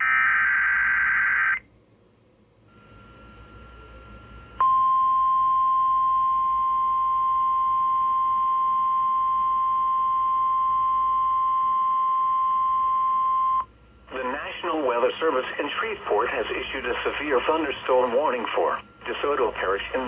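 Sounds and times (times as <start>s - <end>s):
steady alarm tone: 0.0s - 1.6s, 2.7s - 20.0s.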